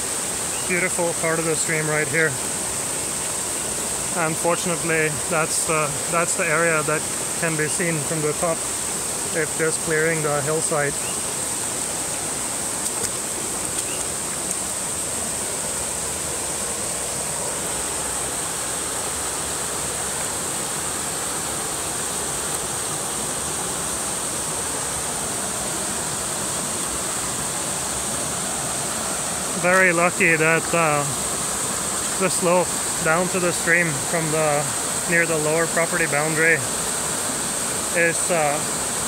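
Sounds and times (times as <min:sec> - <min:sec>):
stream waterfalls rushing into pool: 0:00.0 - 0:39.0.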